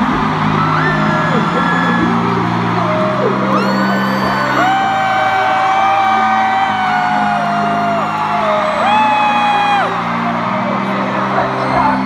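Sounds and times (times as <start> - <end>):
audience whooping: 0.0 - 12.0
music over arena sound system: 0.0 - 12.0.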